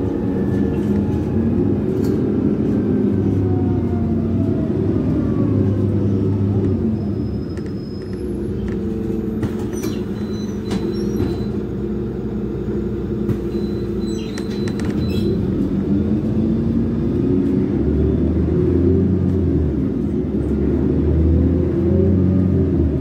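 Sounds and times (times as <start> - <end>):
bus engine running: 0.0 - 23.0
road rumble: 0.0 - 23.0.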